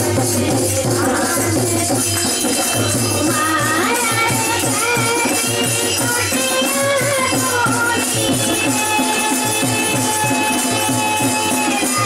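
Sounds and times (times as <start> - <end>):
shaken rattle beat: 0.0 - 12.0.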